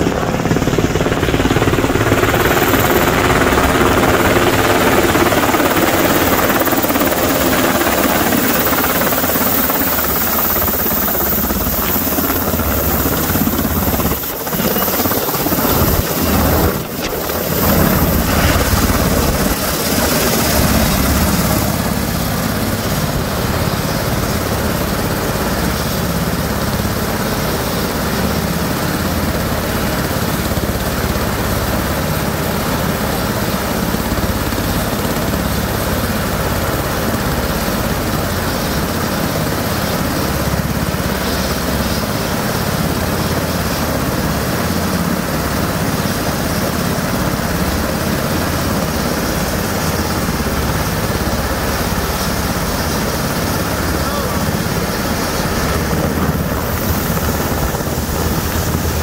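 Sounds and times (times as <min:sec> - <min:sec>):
helicopter rotors and engines: 0:00.0 - 0:59.0.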